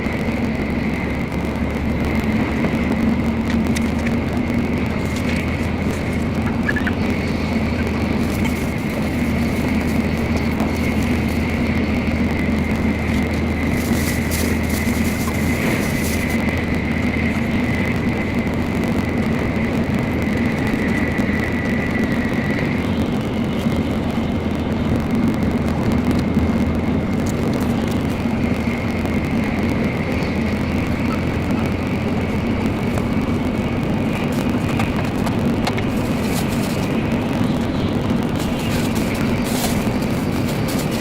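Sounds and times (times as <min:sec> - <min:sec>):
high-speed train cabin rumble: 0:00.0 - 0:41.0.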